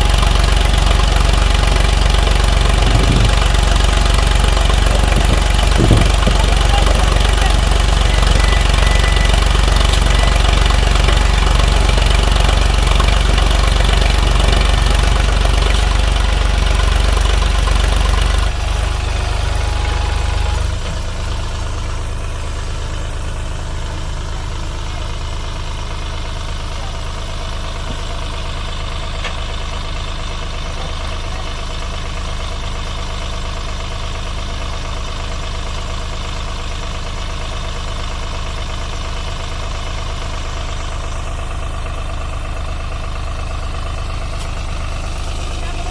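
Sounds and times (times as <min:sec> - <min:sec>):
tractor diesel engine: 0:00.0 - 0:45.9.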